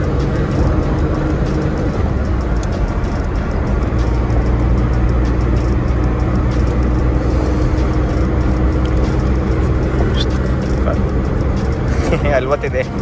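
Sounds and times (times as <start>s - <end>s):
car engine drone: 0.0s - 13.0s.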